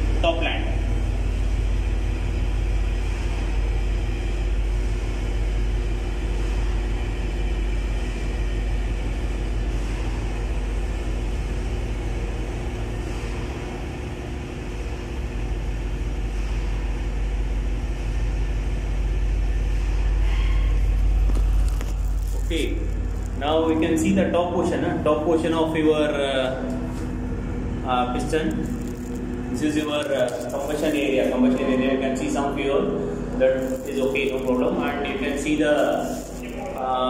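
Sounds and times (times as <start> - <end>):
engine-room machinery drone: 0.0 - 37.0.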